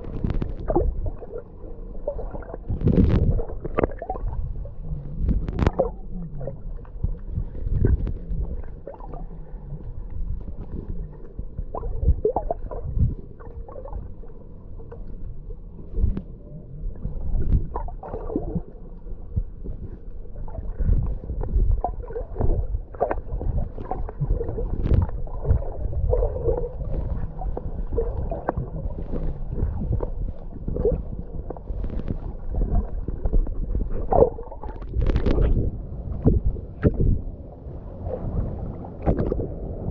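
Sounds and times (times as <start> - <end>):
water splashes: 0.0 - 15.1, 15.7 - 19.0, 19.6 - 39.9
sea water sloshing and gurgling: 0.0 - 39.9.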